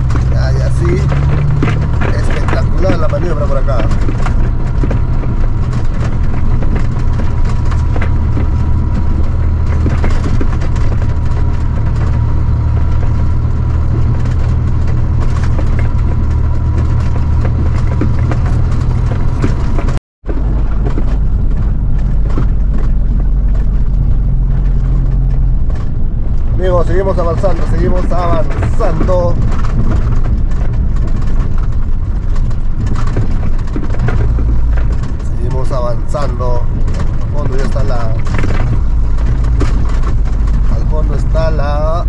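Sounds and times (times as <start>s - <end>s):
truck engine running under load: 0.0s - 42.0s
truck rattles and knocks: 0.0s - 42.0s.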